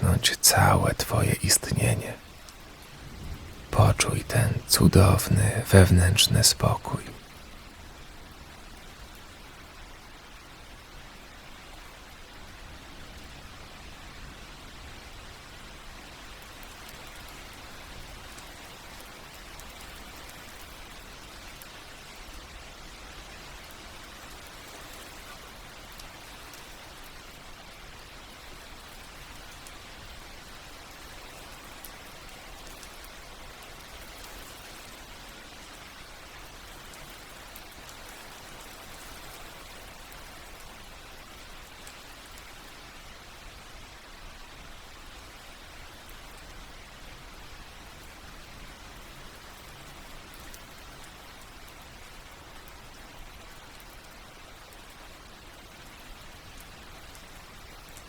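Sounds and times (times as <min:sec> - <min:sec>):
rain falling on leaves: 0:07.4 - 0:58.0.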